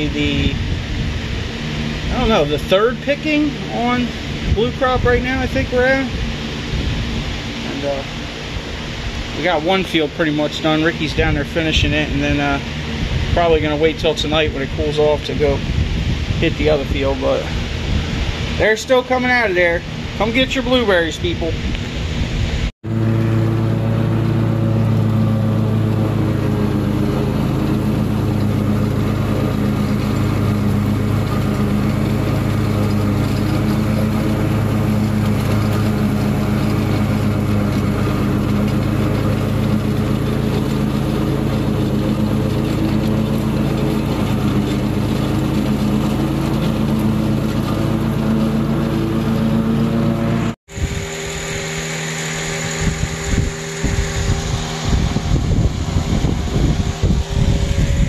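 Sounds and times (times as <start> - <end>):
lawn mower engine running: 0.0 - 58.0
steady running sound: 0.0 - 58.0.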